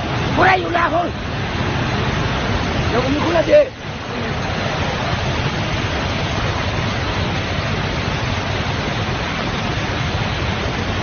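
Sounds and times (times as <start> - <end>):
torrent of mud and water rushing: 0.0 - 11.0.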